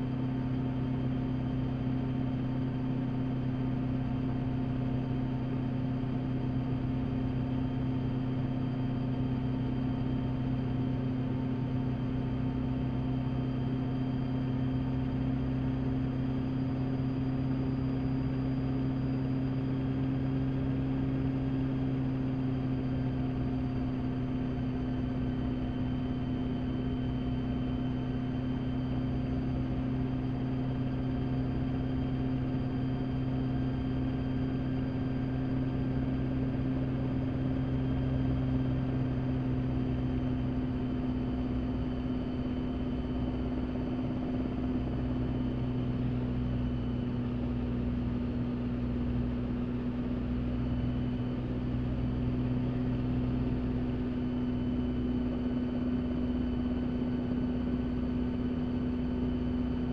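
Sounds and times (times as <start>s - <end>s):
helicopter engine droning: 0.0s - 59.9s.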